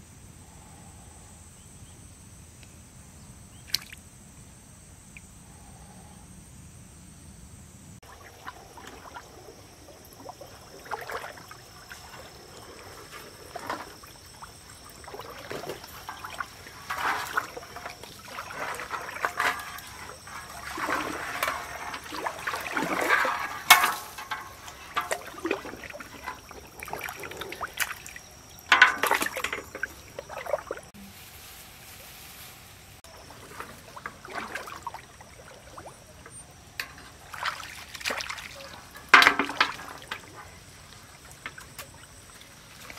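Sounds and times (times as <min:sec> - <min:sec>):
water sloshing and splashing: 0:08.0 - 0:42.9.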